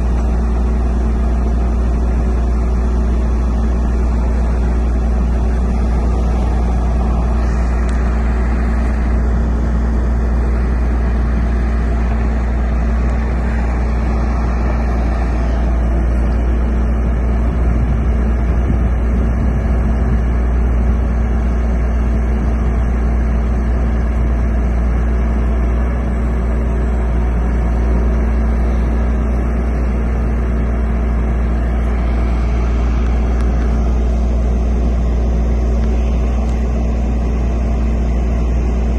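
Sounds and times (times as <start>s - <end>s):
truck engine rumbling: 0.0s - 38.9s.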